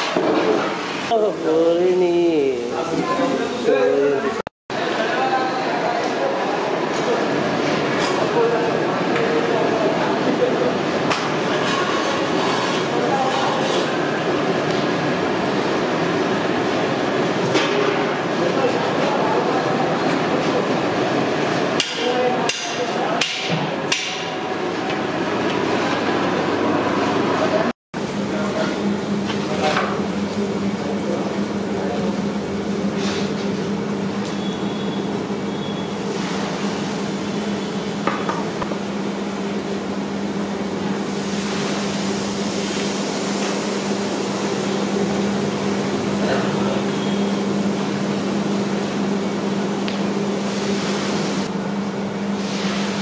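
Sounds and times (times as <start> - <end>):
broth boiling hard: 0.0 - 53.0
steady noisy background: 0.0 - 53.0.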